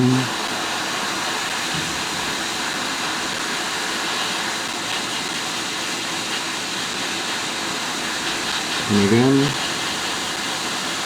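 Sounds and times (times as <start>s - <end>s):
hot air blower hissing: 0.0s - 11.0s.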